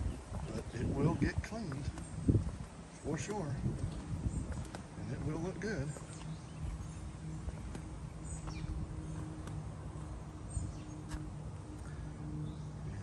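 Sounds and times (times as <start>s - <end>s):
steady low hum: 0.0s - 13.0s
wind buffeting microphone: 0.0s - 13.0s.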